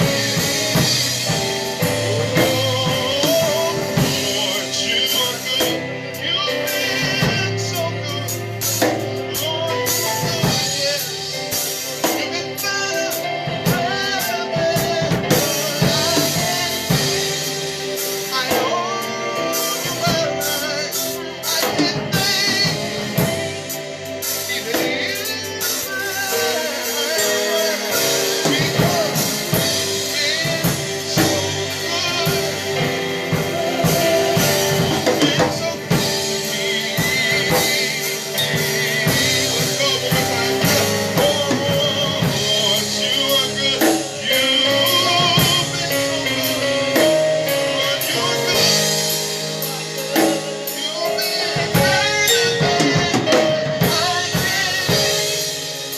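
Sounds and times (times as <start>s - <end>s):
drum kit: 0.0s - 55.9s
gospel worship music: 0.0s - 55.9s
person singing: 0.0s - 55.9s.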